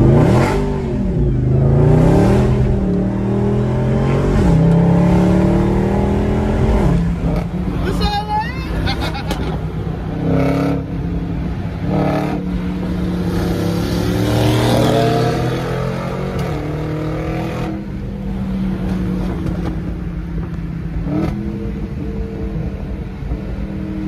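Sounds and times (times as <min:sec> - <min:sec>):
car engine accelerating: 0:00.0 - 0:08.2, 0:08.8 - 0:24.0
road noise: 0:00.0 - 0:24.0.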